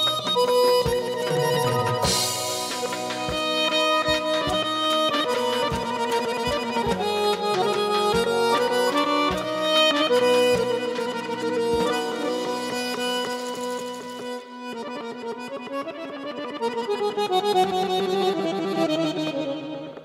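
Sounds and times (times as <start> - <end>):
accordion melody: 0.0 - 20.0.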